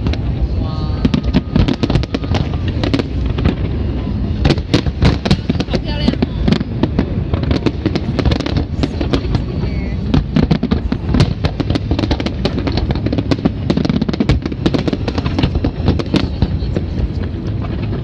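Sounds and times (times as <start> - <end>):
fireworks bangs and crackles: 0.0 - 18.0
low rumble: 0.0 - 18.0.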